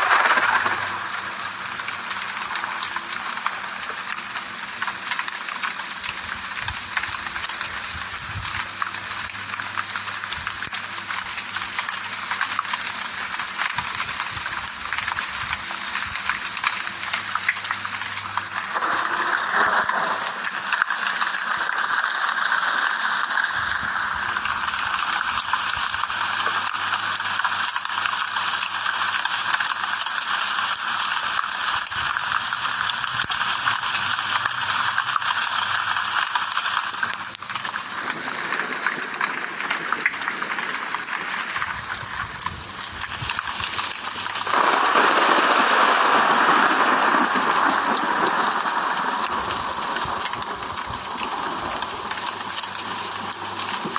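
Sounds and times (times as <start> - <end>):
rain falling steadily: 0.0 - 53.9.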